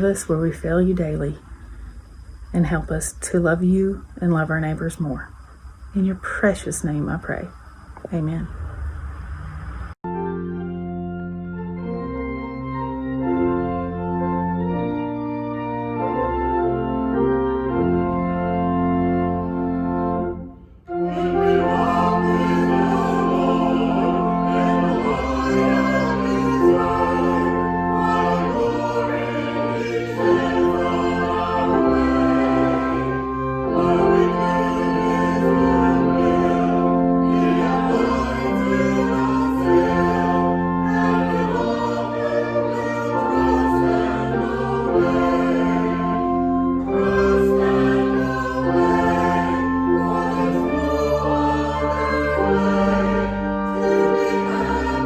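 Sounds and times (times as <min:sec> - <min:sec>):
slow church music chords: 0:09.9 - 0:55.0.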